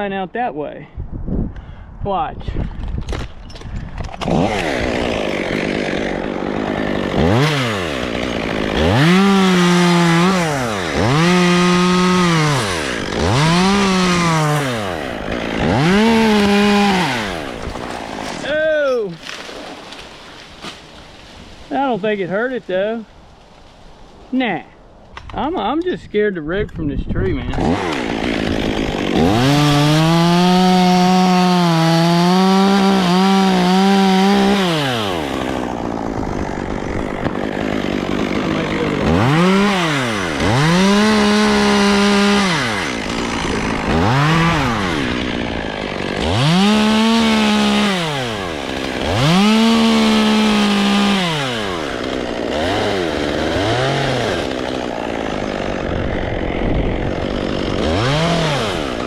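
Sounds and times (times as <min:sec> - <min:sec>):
chainsaw cutting wood: 0:03.1 - 0:21.9, 0:27.4 - 0:59.0.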